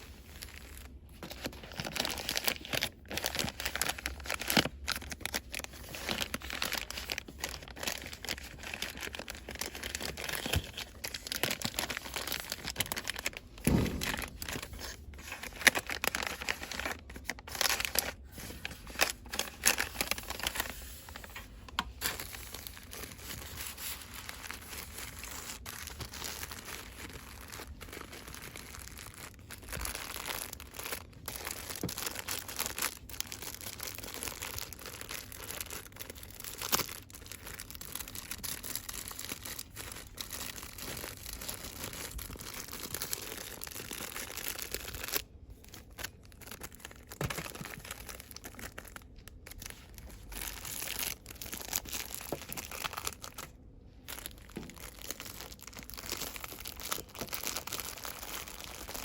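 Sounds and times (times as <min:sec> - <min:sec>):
packaging crinkling and rustling: 0:00.0 - 0:59.0.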